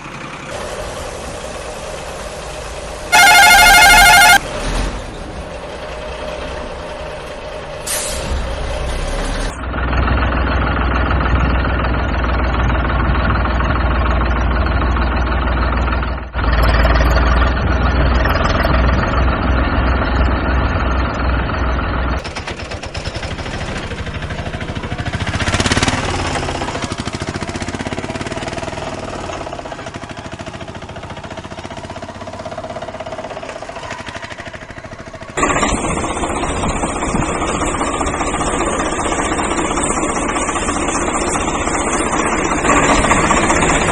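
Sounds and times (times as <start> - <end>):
vehicle engine low rumble: 0.0 - 43.9.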